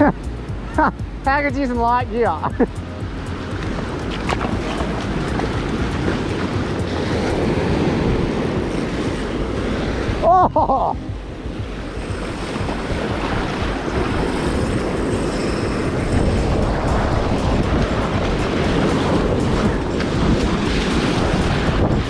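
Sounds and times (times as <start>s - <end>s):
ocean surf over rocks: 0.0s - 22.0s.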